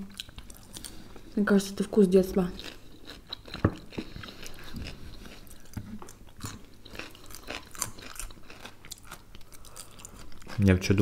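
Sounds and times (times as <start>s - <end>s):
chewing crisp cucumber: 0.0s - 1.1s, 2.4s - 10.8s.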